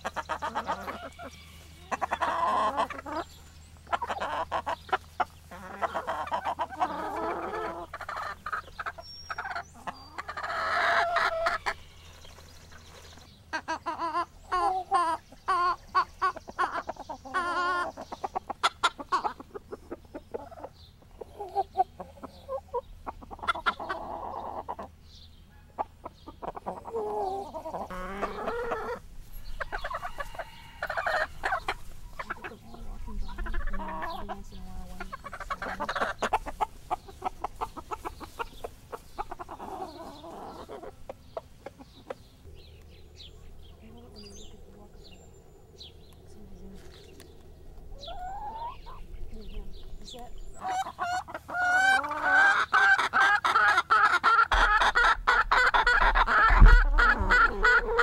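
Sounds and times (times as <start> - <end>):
chickens clucking and calling: 0.0 - 58.0.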